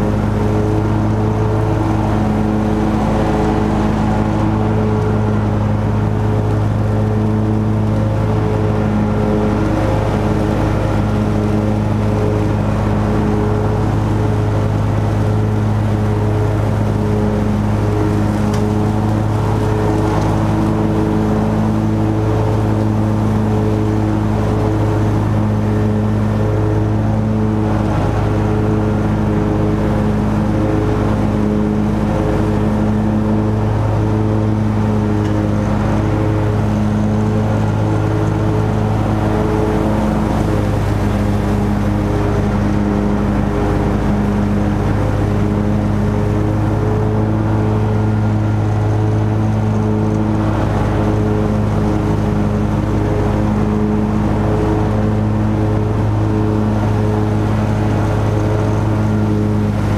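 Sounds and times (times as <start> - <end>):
lawn mower engine running: 0.0 - 59.9.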